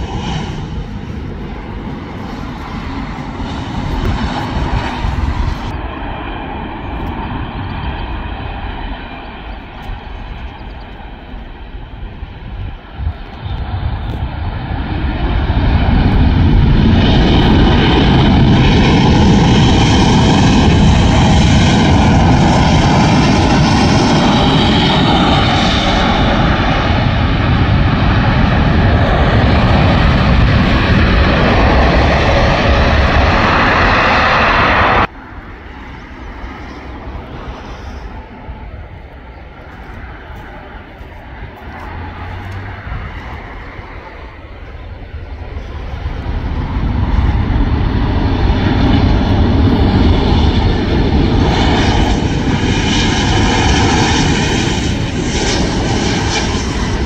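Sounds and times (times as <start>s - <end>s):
jet engines rushing on landing: 0.0s - 57.0s.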